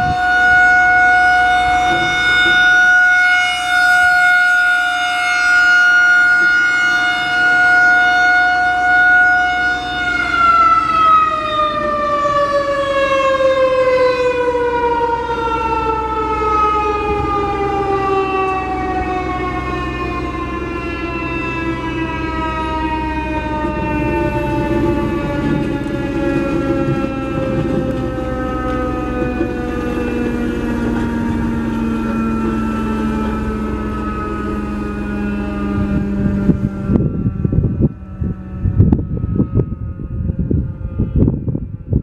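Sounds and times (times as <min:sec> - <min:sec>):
rotating warning siren steady tone: 0:00.0 - 0:42.0
siren winding down: 0:00.0 - 0:42.0.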